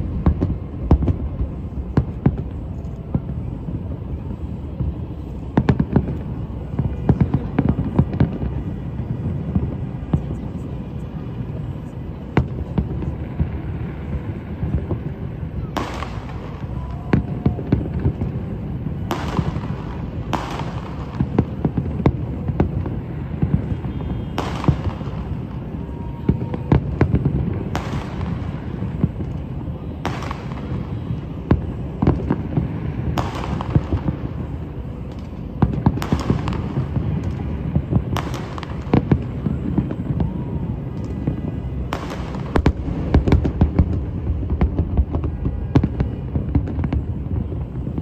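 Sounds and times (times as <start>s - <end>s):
fireworks bangs: 0.0s - 48.0s
fireworks crackles: 0.0s - 48.0s.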